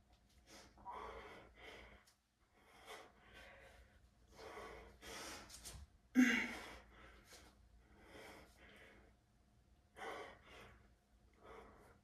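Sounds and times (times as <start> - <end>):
man breathing hard: 0.3 - 9.2, 9.9 - 12.0.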